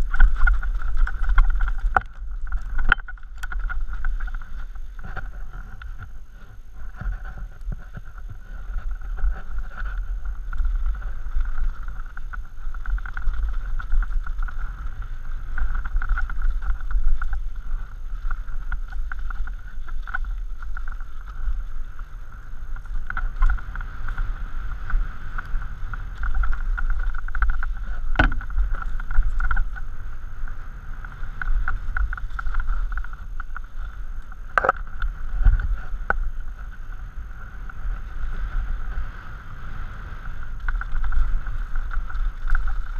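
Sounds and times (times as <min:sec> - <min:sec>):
bike rattling: 0:00.0 - 0:42.9
wind rumble on microphone: 0:00.0 - 0:42.9.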